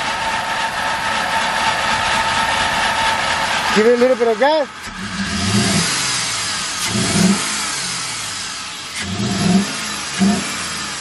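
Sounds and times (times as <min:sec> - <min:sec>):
engine revving and idling: 0:00.0 - 0:11.0.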